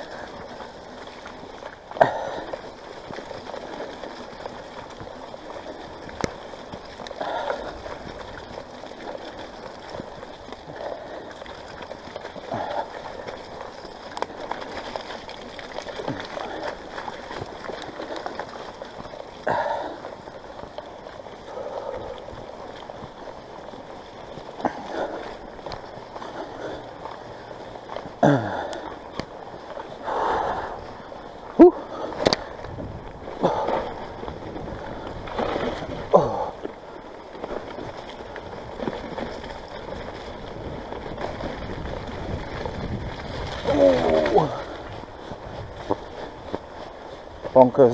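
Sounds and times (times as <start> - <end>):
bike tyres splashing through water: 0.0 - 47.9.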